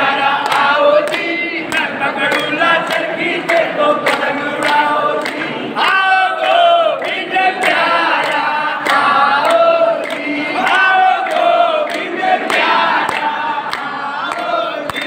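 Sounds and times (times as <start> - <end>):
crowd singing a chant: 0.0 - 15.0.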